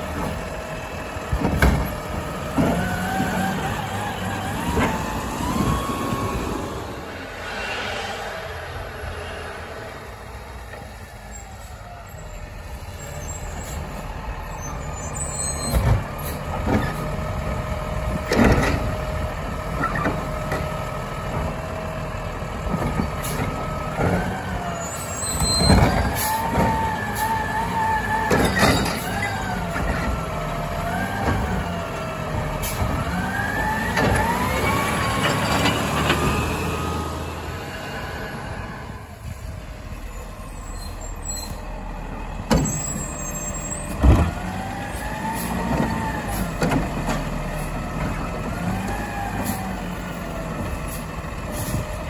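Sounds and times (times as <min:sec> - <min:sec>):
garbage truck diesel engine: 0:00.0 - 0:52.0.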